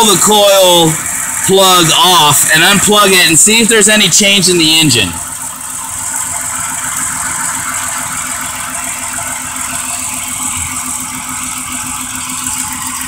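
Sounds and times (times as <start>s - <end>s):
car engine idling rough: 0.0s - 13.0s.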